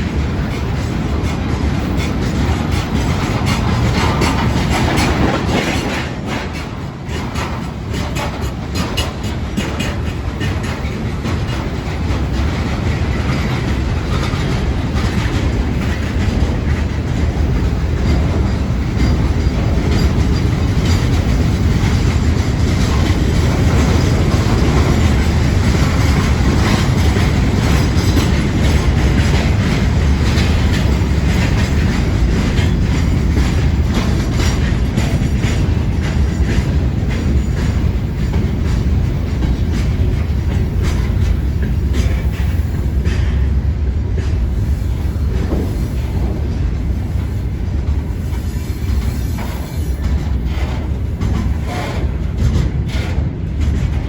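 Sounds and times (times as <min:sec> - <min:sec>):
freight train wheels clattering: 0:00.0 - 0:54.0
train rumble: 0:00.0 - 0:54.0.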